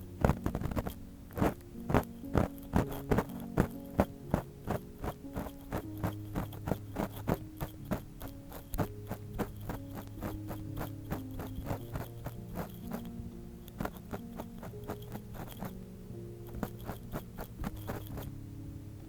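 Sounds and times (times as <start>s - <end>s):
ear pick scratching and tapping: 0.0s - 15.8s, 16.4s - 18.3s
soft background music: 0.0s - 19.0s.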